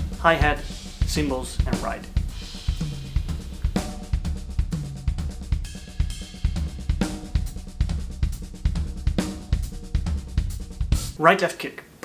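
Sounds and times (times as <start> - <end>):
drum kit playing: 0.0 - 11.3.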